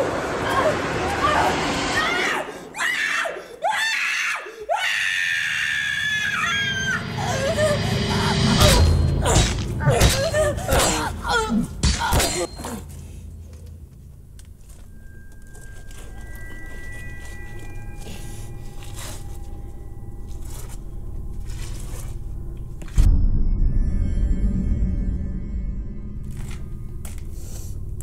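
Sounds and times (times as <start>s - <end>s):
low eerie drone: 0.0s - 3.6s, 4.8s - 28.0s.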